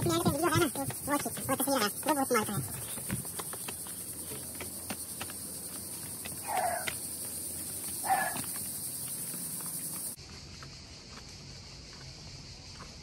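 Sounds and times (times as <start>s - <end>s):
footsteps on stone: 0.0s - 13.0s
high insect drone: 0.0s - 13.0s.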